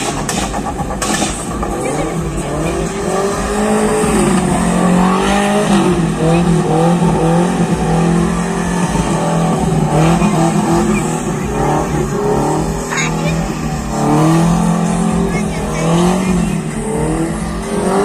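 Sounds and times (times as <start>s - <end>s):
pickup truck engine revving hard: 0.0s - 18.0s.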